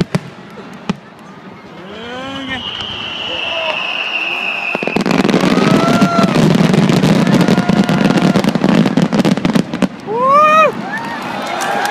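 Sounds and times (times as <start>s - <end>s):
fireworks bangs and crackles: 0.0s - 11.9s.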